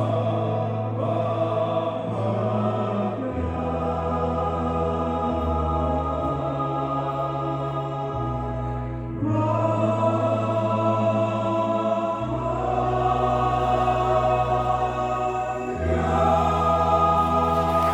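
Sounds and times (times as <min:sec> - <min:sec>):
choir singing a hymn: 0:00.0 - 0:17.9.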